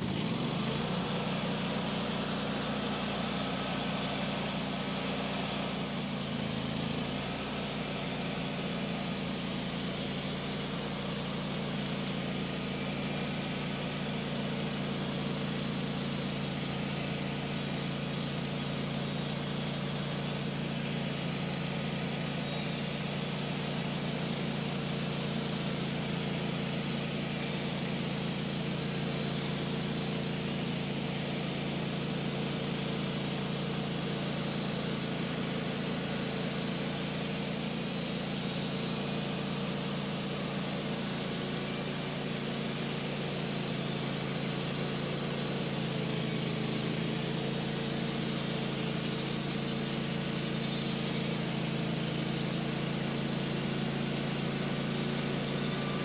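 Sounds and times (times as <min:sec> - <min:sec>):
bandsaw mill engine humming: 0:00.0 - 0:56.0.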